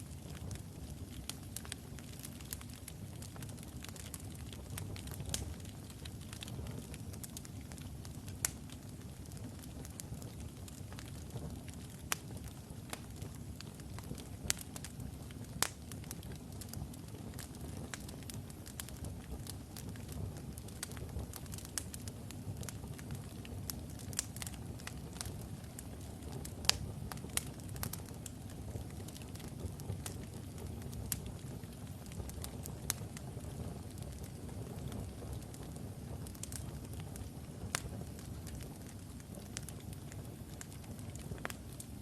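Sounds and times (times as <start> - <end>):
burning wood crackling and popping: 0.0 - 42.0
fire flames rushing: 0.2 - 41.8.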